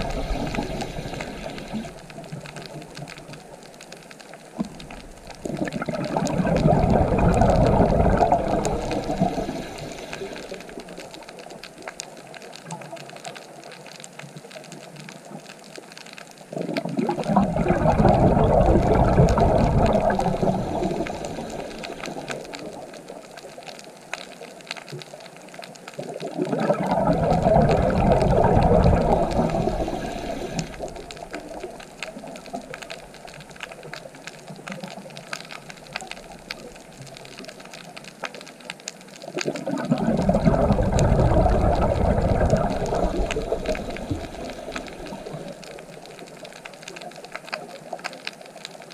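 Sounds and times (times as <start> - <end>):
faint crackle: 0.0 - 48.9
underwater exhaled bubbles gurgling: 0.0 - 48.9.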